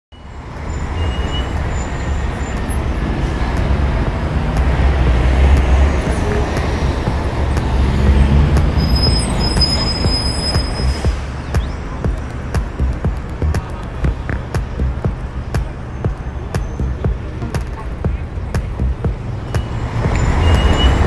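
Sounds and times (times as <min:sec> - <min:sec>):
deep traffic rumble: 0:00.2 - 0:21.0.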